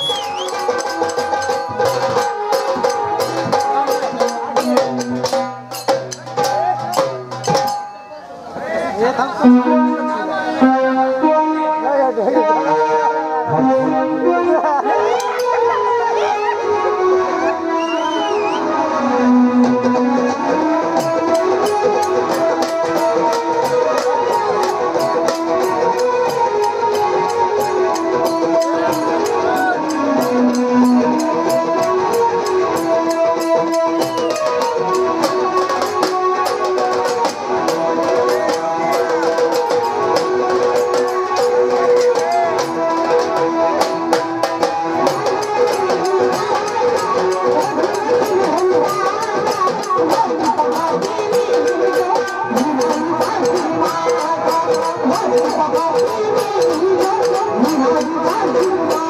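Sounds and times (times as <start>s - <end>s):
running drum beat: 0.0s - 8.0s, 19.6s - 59.0s
electronic keyboard melody: 9.3s - 59.0s.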